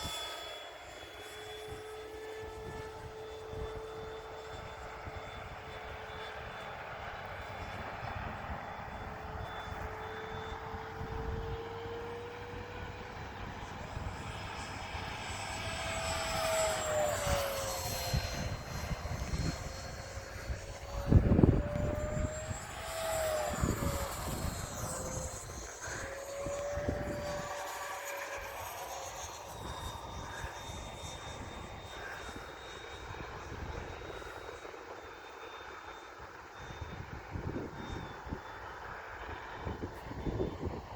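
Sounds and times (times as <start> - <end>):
electric ducted-fan jet whine: 0.0 - 40.9
wind buffeting microphone: 1.2 - 34.9, 36.2 - 40.9.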